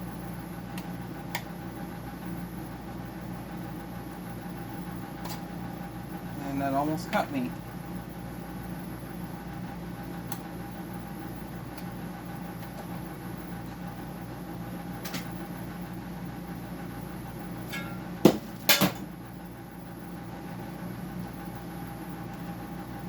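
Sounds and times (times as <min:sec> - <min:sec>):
dehumidifier compressor and fan hum: 0:00.0 - 0:23.0.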